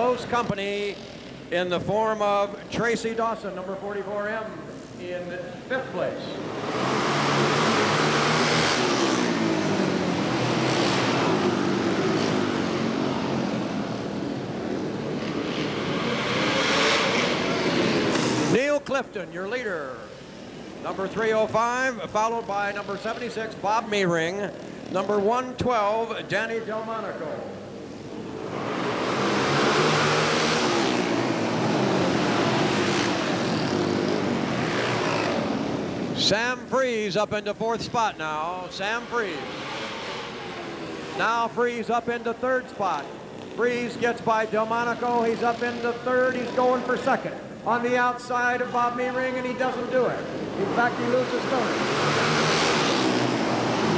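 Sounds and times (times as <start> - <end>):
racing motorcycle engines: 0.0 - 53.9.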